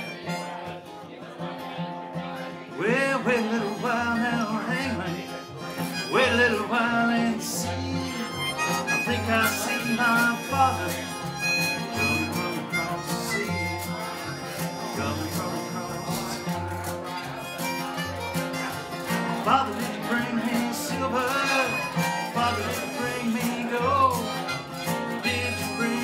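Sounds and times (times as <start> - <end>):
harmonica bending notes: 0.0 - 0.8, 2.6 - 26.0
strummed acoustic guitar: 0.0 - 26.0.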